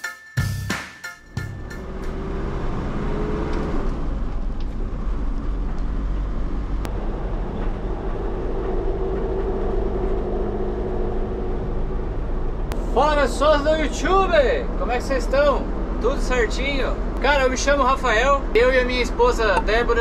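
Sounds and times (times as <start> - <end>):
diesel engine running: 1.2 - 20.0
tyre and road noise: 1.2 - 20.0.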